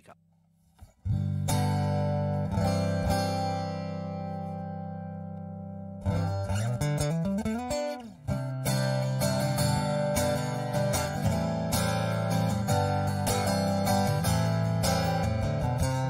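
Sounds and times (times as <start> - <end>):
guitar picked notes and strummed chords: 0.6 - 16.0.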